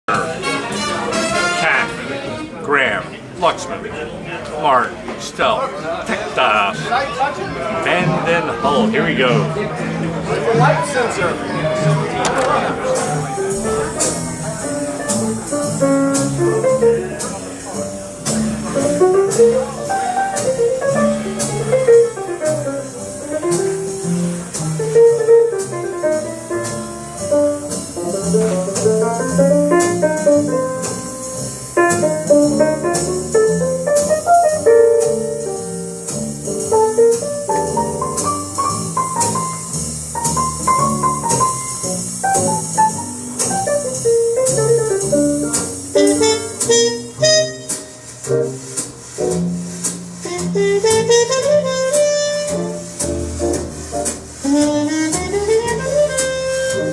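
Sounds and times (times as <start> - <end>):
instrumental jazz with piano and guitar: 0.1 - 56.9.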